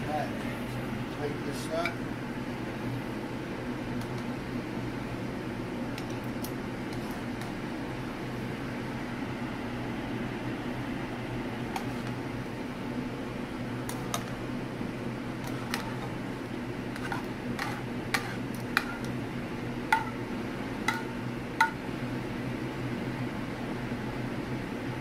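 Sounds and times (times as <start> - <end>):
fan hum: 0.0 - 25.0.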